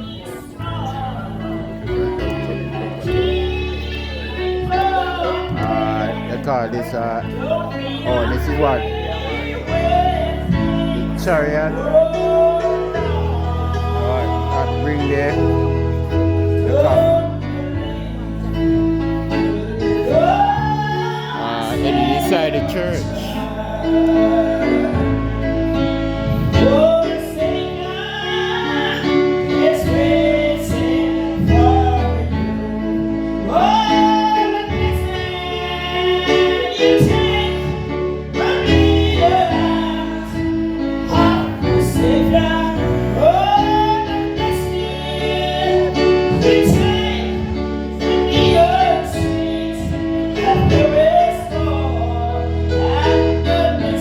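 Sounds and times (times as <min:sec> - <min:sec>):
woman singing with vibrato: 0:00.0 - 0:06.2, 0:07.2 - 0:14.8, 0:15.6 - 0:54.0
sustained instrumental chords: 0:00.0 - 0:54.0.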